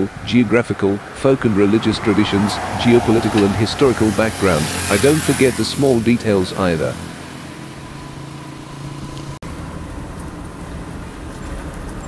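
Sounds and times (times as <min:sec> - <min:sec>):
engine and road noise inside van: 0:00.0 - 0:12.0
vehicle engine humming: 0:00.0 - 0:12.0.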